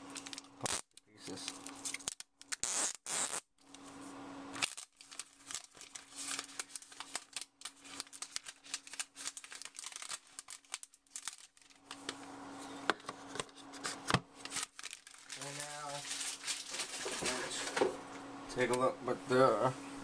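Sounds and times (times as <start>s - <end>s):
plastic film crinkling: 0.0s - 12.3s, 13.0s - 17.8s.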